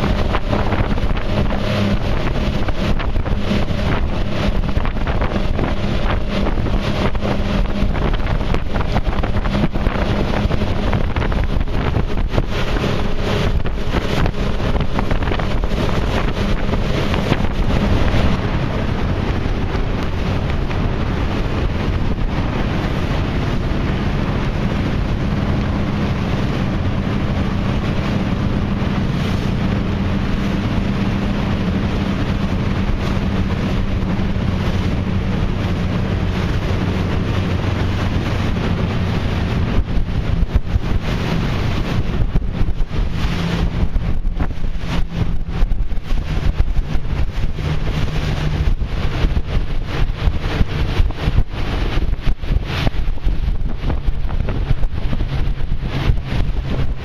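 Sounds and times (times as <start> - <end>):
outboard motors running: 0.0 - 57.0
water rushing along hull: 0.0 - 57.0
wind buffeting microphone: 0.0 - 57.0.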